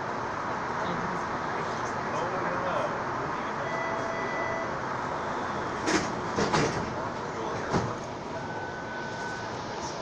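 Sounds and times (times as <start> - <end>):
streetcar cabin noise: 0.0 - 10.0.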